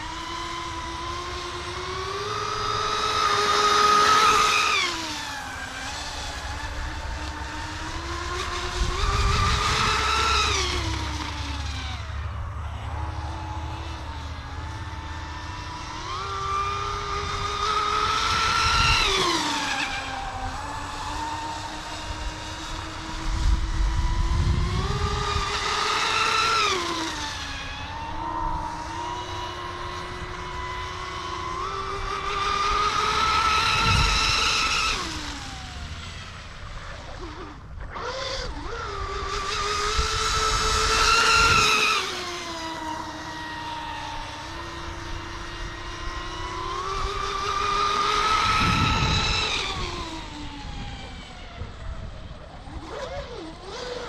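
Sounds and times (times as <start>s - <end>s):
low rumble of passing boat: 0.0s - 54.0s
model boat motor whining: 0.0s - 54.0s.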